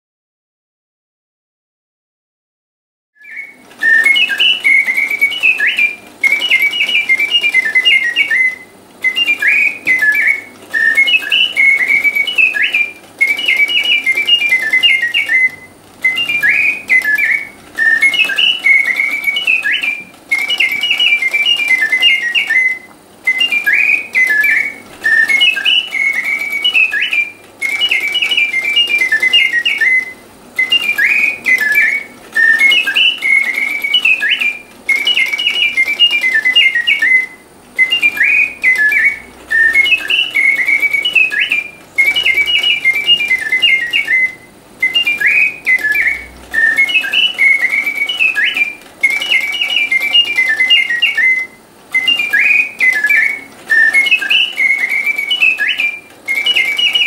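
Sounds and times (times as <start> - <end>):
mechanical birdsong whistling: 3.2 - 57.0.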